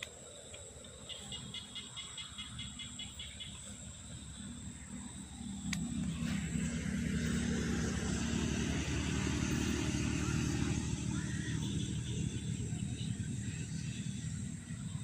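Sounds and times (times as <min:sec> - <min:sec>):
vehicle engine running: 0:02.4 - 0:15.0.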